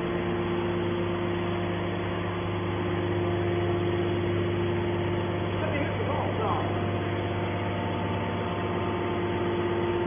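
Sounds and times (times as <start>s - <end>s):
hydraulic pump humming: 0.0s - 10.0s.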